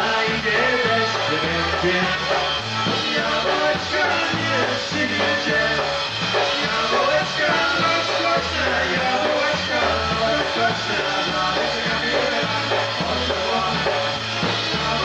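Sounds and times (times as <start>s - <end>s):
live polka band playing: 0.0s - 15.0s.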